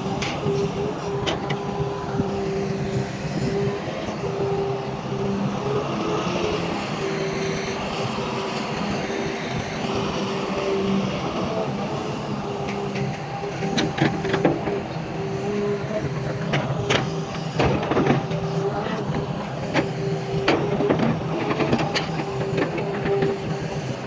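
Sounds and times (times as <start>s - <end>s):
diesel machinery engine hum: 0.0s - 24.0s.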